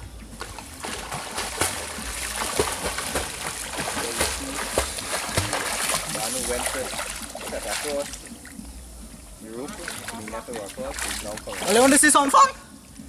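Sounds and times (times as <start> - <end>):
water splashing from swimming: 0.0 - 13.0.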